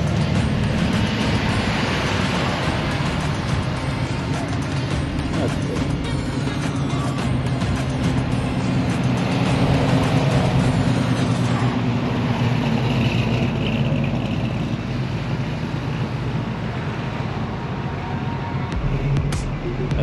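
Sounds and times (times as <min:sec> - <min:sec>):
vehicle engine with road noise: 0:00.0 - 0:20.0.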